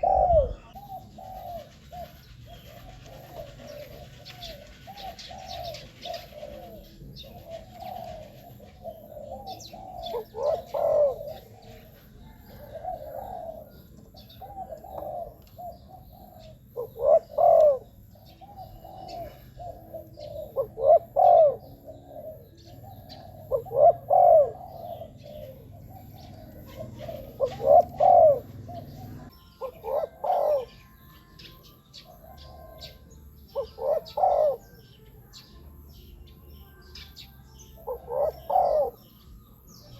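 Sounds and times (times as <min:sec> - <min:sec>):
dove cooing: 0:00.0 - 0:36.0, 0:36.9 - 0:39.9.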